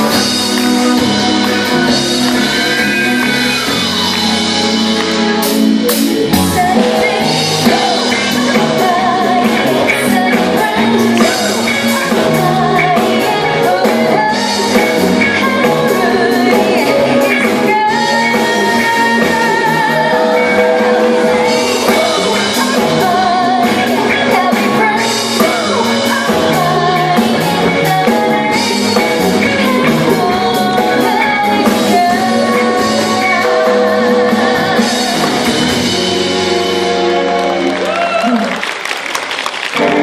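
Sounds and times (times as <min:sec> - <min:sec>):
person singing: 0:00.0 - 0:37.4
guitar: 0:00.0 - 0:38.6, 0:39.3 - 0:40.0
drums: 0:00.0 - 0:40.0.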